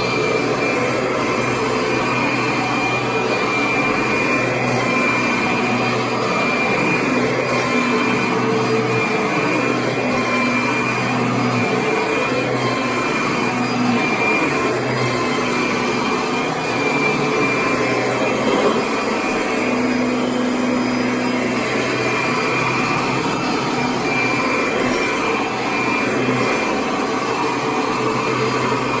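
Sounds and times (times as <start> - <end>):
vacuum cleaner whirring: 0.0 - 29.0.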